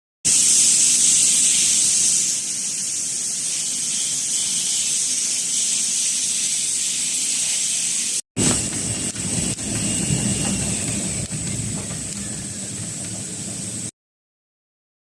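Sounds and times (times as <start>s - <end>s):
high-pitched machinery hiss: 0.3s - 13.9s.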